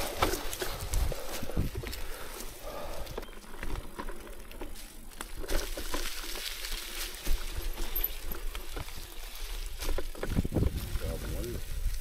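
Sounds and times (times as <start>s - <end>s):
bike rattling over bumps: 0.0s - 12.0s
bike tyres rolling on dirt: 0.0s - 12.0s.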